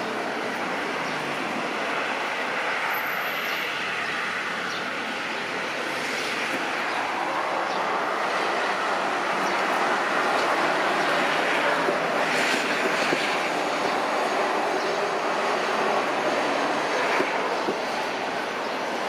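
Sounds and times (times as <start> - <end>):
jet airliner roar: 0.0 - 19.0.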